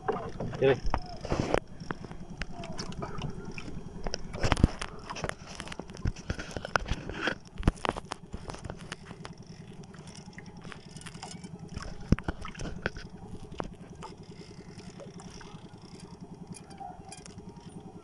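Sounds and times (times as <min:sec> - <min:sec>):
boat engine droning: 0:00.0 - 0:18.0
fishing reel clicks and knocks: 0:00.7 - 0:18.0.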